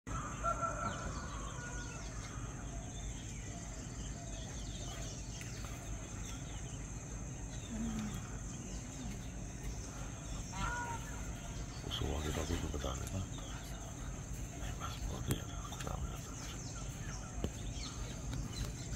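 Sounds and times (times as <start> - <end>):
bird chirps: 0.1 - 18.9
insects droning: 0.1 - 18.9.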